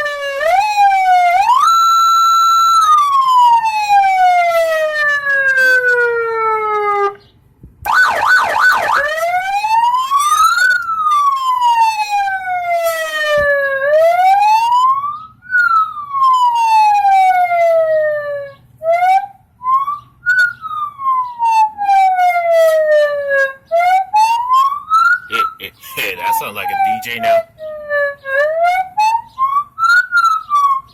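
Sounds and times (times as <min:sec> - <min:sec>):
electronic car siren: 0:00.0 - 0:07.2, 0:07.9 - 0:30.9.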